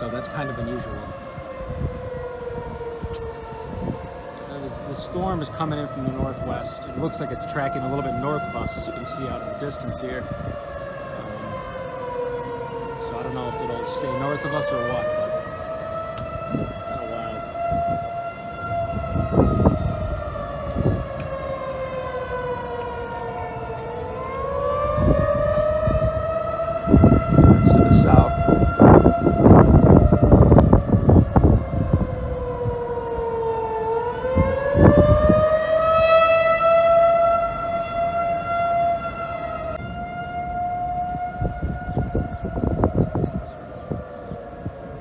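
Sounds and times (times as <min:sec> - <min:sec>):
tornado warning sirens wailing: 0:00.0 - 0:45.0.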